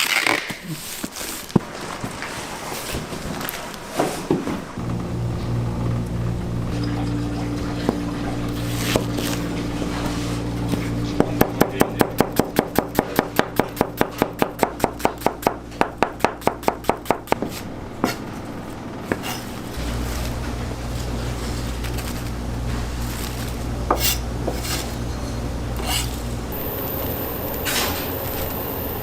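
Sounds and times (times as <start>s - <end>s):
kitchen hum: 0.7s - 29.0s.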